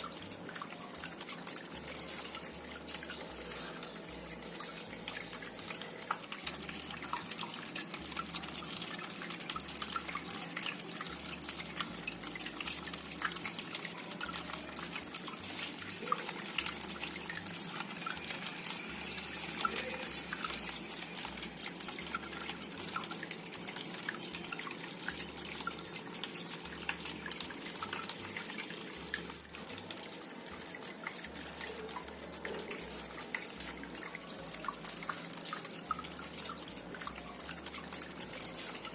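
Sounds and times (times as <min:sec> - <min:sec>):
fountain water trickling: 0:00.0 - 0:38.9.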